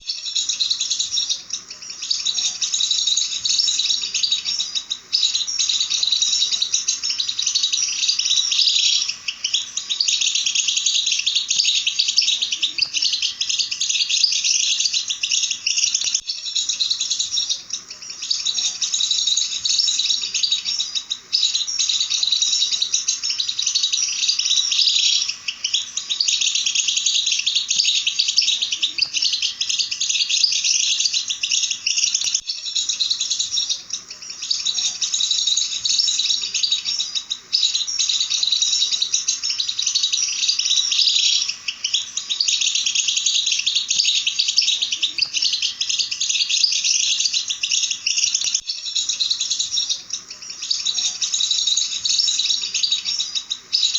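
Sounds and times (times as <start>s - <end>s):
songbirds twittering: 0.0s - 53.9s.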